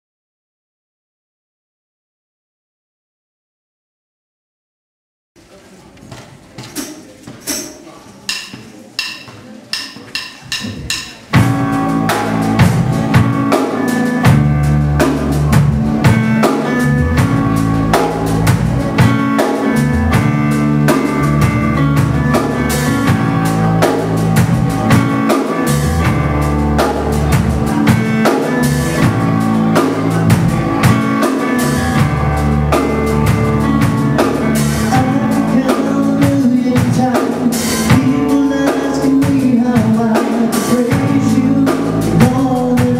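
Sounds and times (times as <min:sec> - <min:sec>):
rock band playing: 0:08.3 - 0:42.9.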